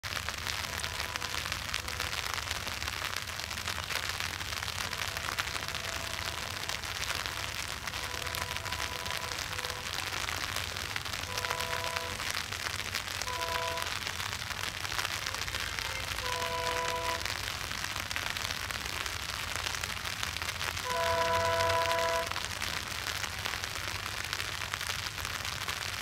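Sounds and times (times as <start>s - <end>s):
rain on umbrella: 0.0s - 26.0s.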